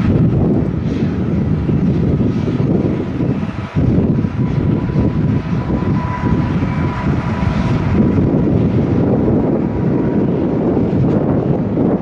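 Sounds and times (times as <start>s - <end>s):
jet engines rumbling at takeoff: 0.0s - 12.0s
wind buffeting microphone: 0.0s - 12.0s.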